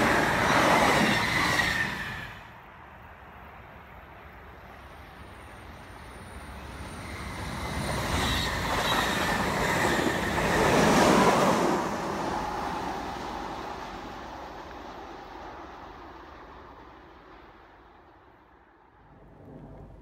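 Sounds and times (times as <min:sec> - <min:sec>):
train passing by: 0:00.0 - 0:20.0.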